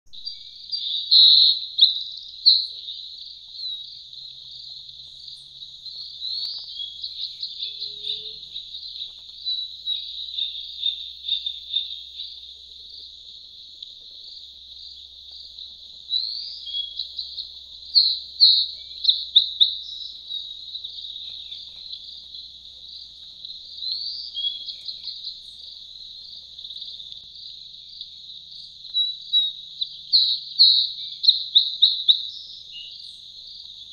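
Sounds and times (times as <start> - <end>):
birds chirping and calling: 0.1 - 27.2, 28.4 - 33.9.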